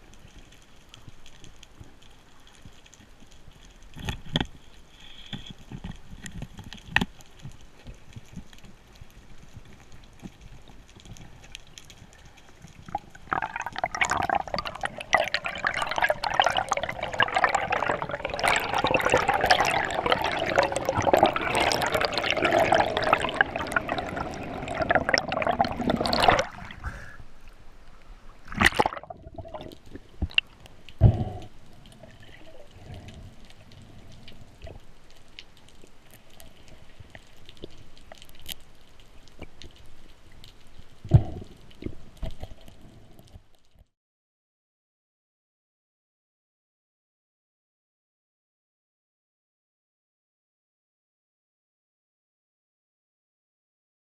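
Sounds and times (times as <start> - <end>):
water bubbling and crackling: 0.0 - 43.9.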